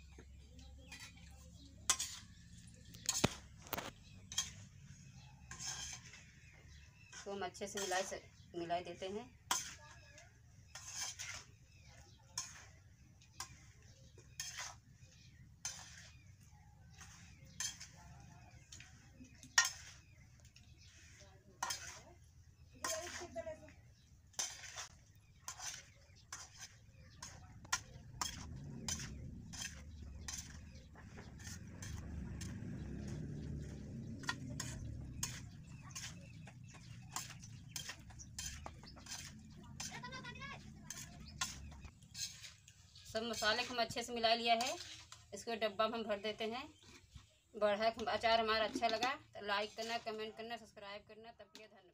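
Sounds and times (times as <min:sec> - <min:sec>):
metal spatula scraping pan: 0:00.6 - 0:45.5, 0:48.7 - 0:50.4.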